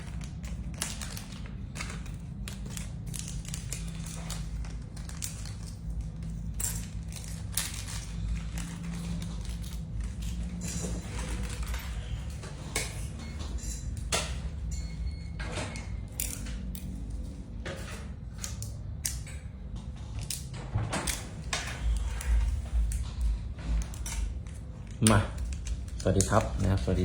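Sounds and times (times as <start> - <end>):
clicks and rustles of small objects: 0.0 - 27.0
low hum: 0.0 - 27.0.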